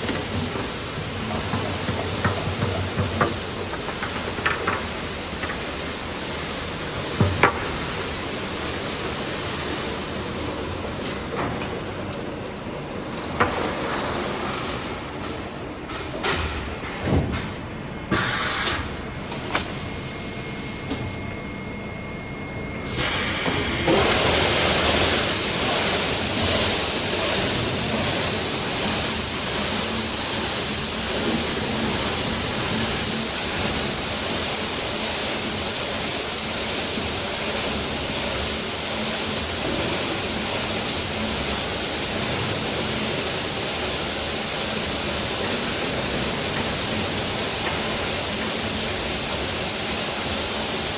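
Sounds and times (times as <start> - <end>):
machine running hiss: 0.0 - 50.9.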